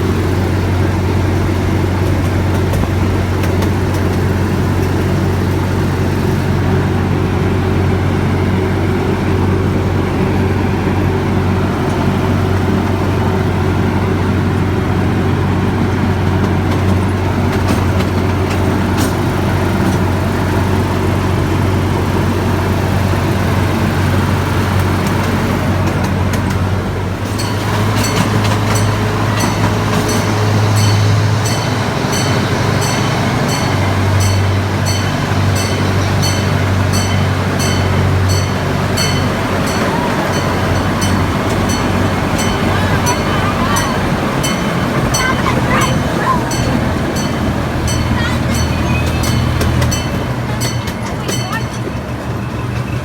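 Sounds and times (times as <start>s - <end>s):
vehicle engine droning: 0.0s - 53.0s.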